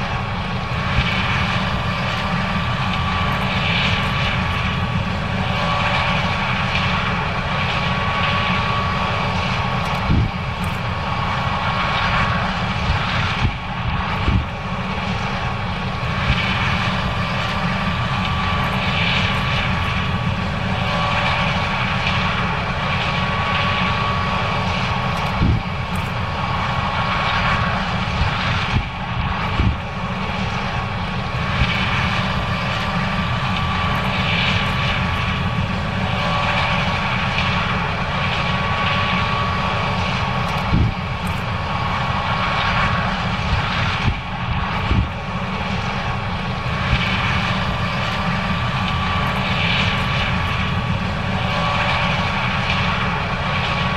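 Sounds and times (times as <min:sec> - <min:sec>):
combine harvester machinery drone: 0:00.0 - 0:53.9
faint steady whine: 0:00.0 - 0:53.9.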